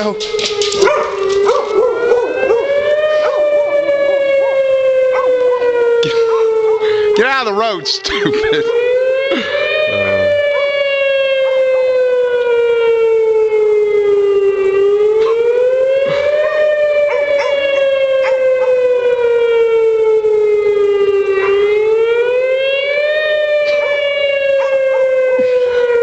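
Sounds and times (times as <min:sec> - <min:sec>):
warning siren wailing: 0:00.0 - 0:26.0.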